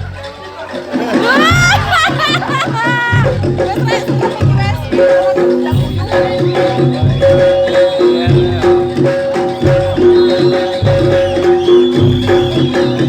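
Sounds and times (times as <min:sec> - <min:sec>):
gamelan ensemble music: 0:00.0 - 0:13.0
drum strokes: 0:00.7 - 0:13.0.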